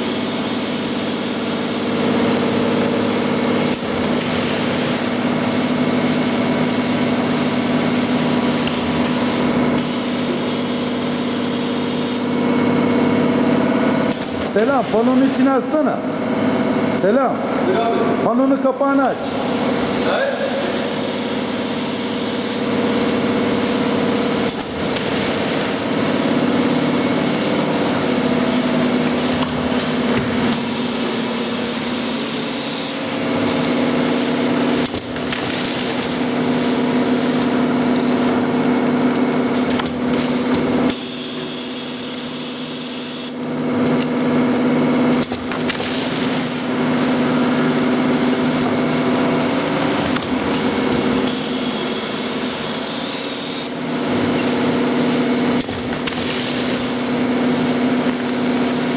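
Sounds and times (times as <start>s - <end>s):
loud mechanical noise: 0.0s - 58.9s
packaging machine motor hum: 0.0s - 58.9s.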